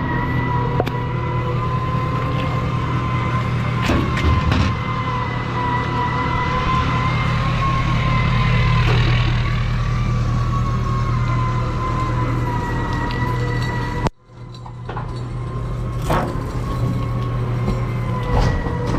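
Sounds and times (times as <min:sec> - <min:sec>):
truck engine drone: 0:00.0 - 0:18.9.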